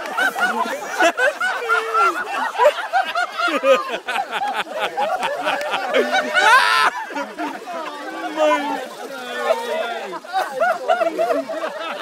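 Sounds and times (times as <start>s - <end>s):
group whooping cheering and laughing: 0.0s - 12.0s.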